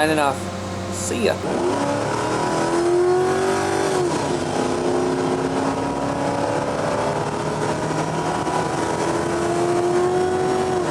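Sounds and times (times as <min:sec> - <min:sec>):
vehicle engine at steady revs: 0:00.0 - 0:10.9.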